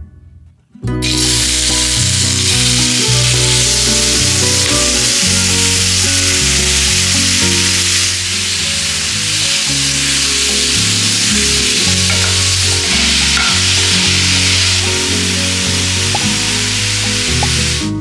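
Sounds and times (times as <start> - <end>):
music of held low notes: 0.8 - 18.0
food sizzling in hot oil: 1.0 - 18.0.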